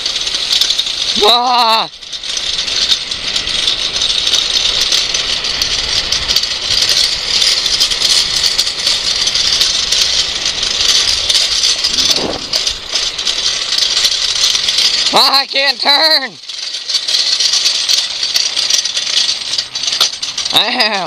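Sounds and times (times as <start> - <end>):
light rattling and clicking: 0.0 - 21.0
wheels hissing on asphalt: 0.0 - 21.0.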